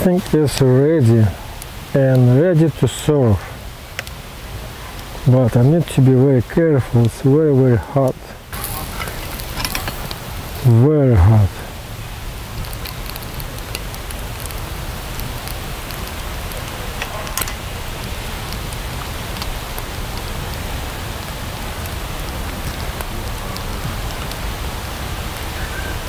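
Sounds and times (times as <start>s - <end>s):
campfire hissing and crackling: 0.0s - 26.0s.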